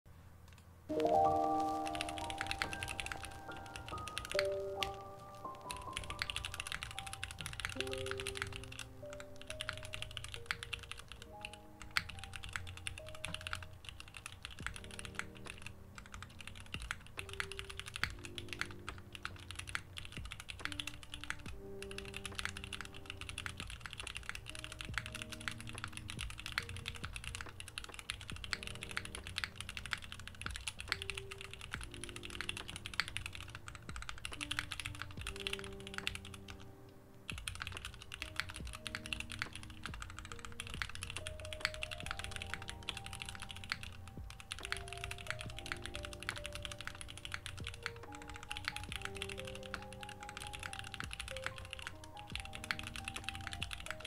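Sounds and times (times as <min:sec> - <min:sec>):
soft background music: 0:00.1 - 0:54.0
mechanical keyboard typing: 0:00.5 - 0:36.7, 0:37.3 - 0:54.0.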